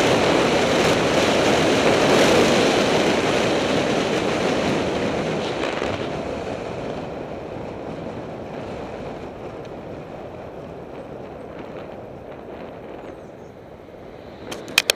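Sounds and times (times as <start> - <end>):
road noise: 0.0 - 14.9
wind rushing over microphone: 0.0 - 14.9.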